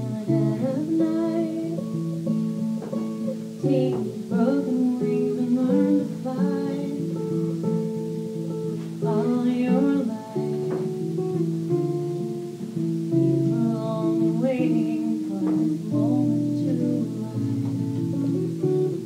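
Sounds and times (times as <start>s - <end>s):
acoustic guitar chords: 0.0s - 19.0s
woman singing: 0.0s - 19.0s.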